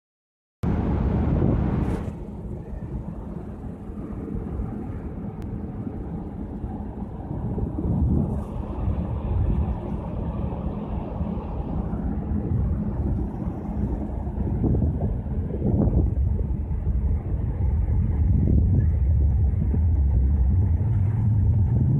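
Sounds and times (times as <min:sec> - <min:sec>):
faint ship hum: 0:00.6 - 0:21.9
wind on microphone: 0:00.6 - 0:21.9.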